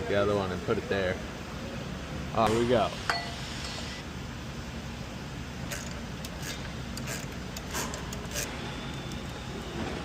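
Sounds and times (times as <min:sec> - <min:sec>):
workshop hum: 0:00.0 - 0:10.0.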